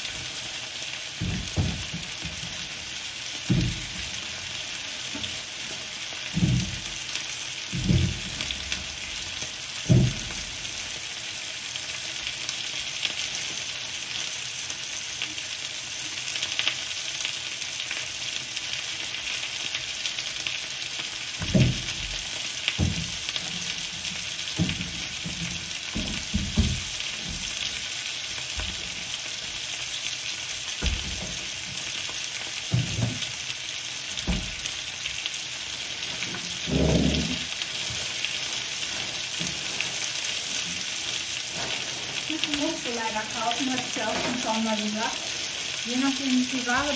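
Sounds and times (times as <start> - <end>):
steady hiss: 0.0 - 46.9.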